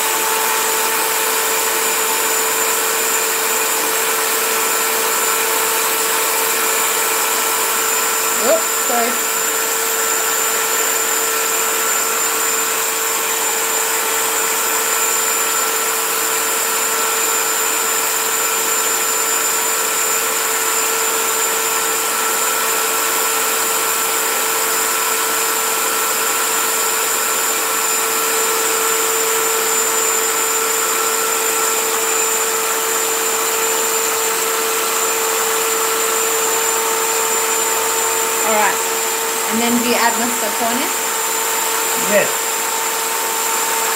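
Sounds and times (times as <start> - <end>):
electric hand mixer whirring: 0.0 - 43.9.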